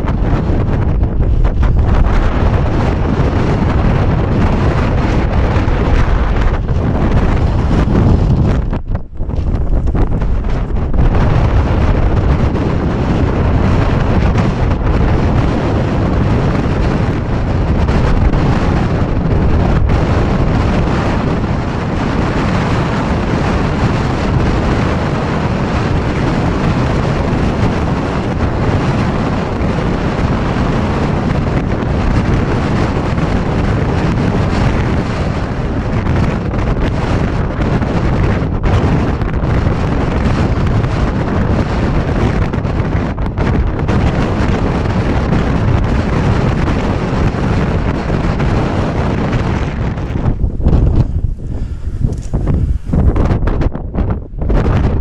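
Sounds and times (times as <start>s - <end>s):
strong wind buffeting microphone: 0.0s - 55.0s.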